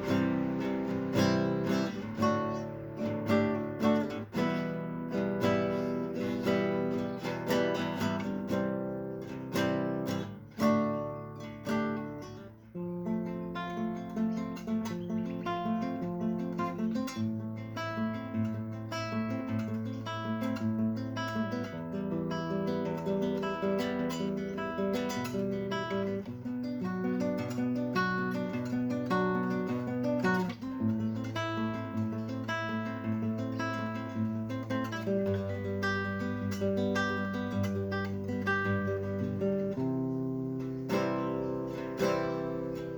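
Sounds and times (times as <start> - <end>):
acoustic guitar music: 0.0 - 42.9.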